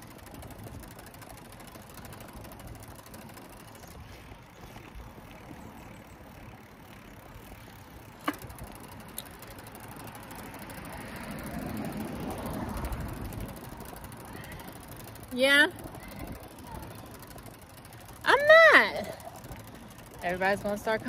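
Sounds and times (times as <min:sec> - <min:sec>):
bicycle rolling noise: 0:00.0 - 0:21.0.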